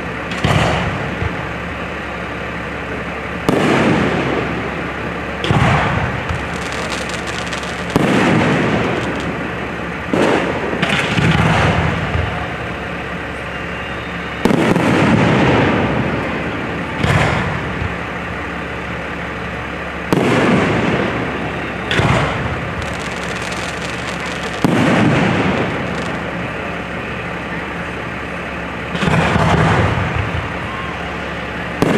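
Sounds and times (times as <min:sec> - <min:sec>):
fireworks booming: 0:00.0 - 0:31.9
rolling echo: 0:00.0 - 0:31.9.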